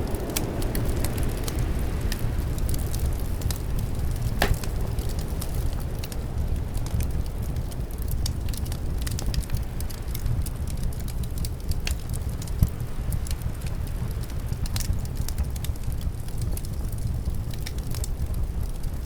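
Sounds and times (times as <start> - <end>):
low rumble of wind: 0.0 - 19.0
wood fire crackling: 0.0 - 19.0.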